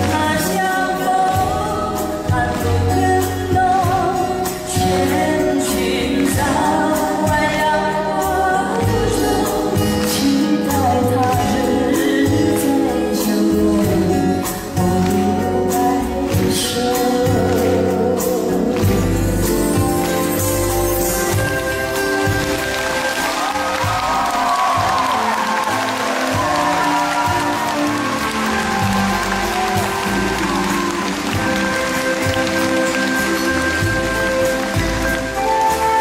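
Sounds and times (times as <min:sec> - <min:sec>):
woman singing a ballad: 0:00.0 - 0:20.5, 0:23.7 - 0:36.0
band accompaniment: 0:00.0 - 0:36.0.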